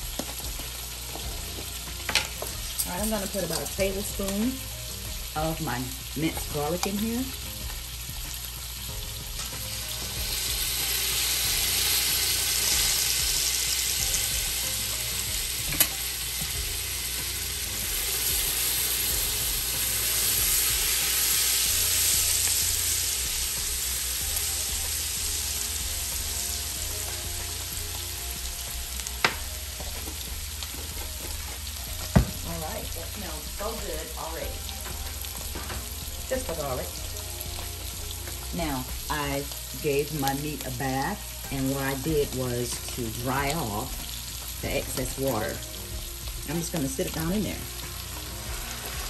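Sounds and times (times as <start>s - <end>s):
garlic sizzling in butter: 0.0s - 49.0s.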